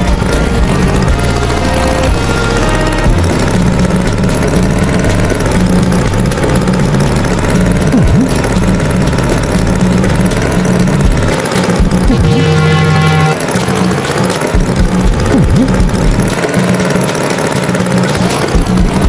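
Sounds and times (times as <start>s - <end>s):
tractor engine chugging: 0.0s - 19.0s.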